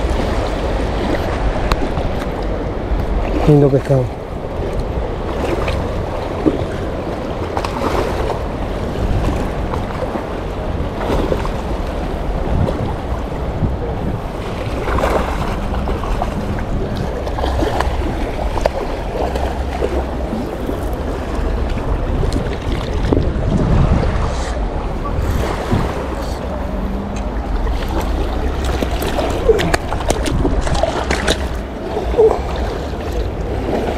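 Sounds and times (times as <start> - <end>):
river water rushing: 0.0 - 33.9
wind buffeting microphone: 0.0 - 33.9.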